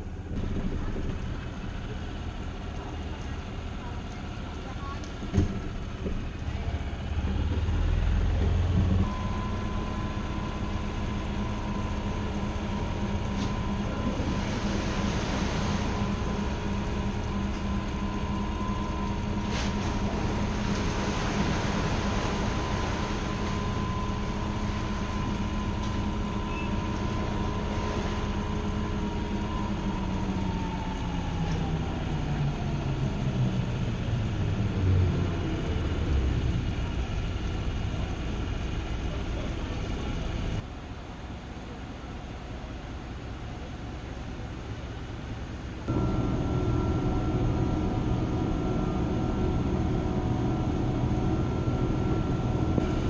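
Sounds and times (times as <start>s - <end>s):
machinery high whine: 0.0s - 40.6s, 45.9s - 53.0s
machinery humming: 0.0s - 41.9s, 42.6s - 53.0s.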